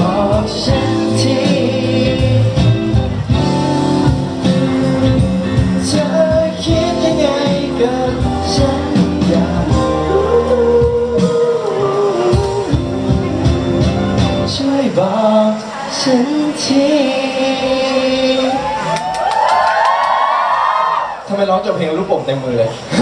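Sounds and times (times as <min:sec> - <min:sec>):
backing music: 0:00.0 - 0:19.0
man singing into a microphone: 0:00.0 - 0:19.0.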